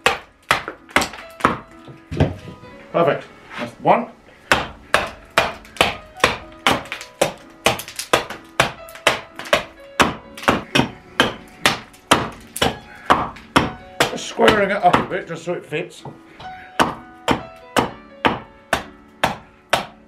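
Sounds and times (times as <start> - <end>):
axe chopping wood: 0.0 - 2.4, 4.5 - 15.2, 16.8 - 20.0.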